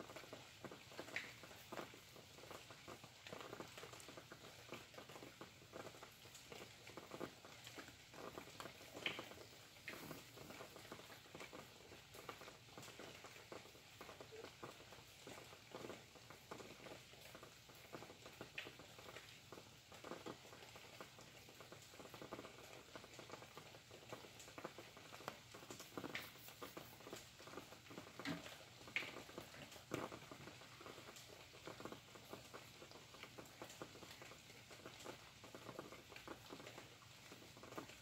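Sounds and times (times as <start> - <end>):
rain drops pattering: 0.0 - 38.0.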